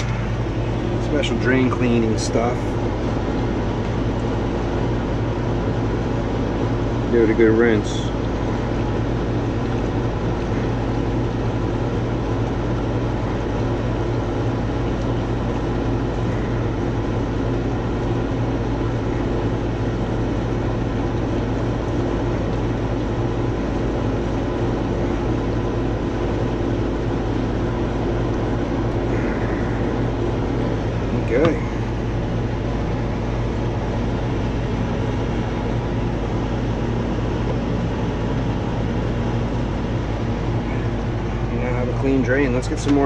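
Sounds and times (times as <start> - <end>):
air handler blower whoosh: 0.0 - 43.0
constant low hum: 0.0 - 43.0.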